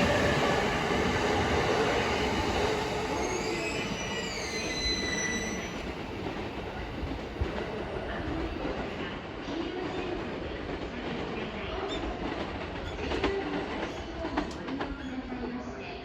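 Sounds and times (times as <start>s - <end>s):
electric train running on rails: 0.0s - 16.0s.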